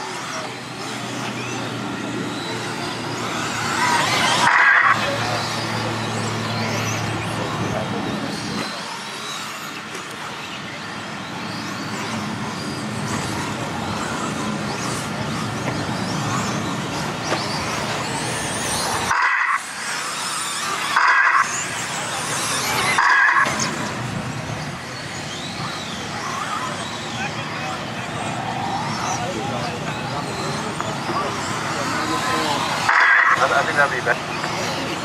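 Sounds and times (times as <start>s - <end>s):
rc car motor whine: 0.0s - 35.0s.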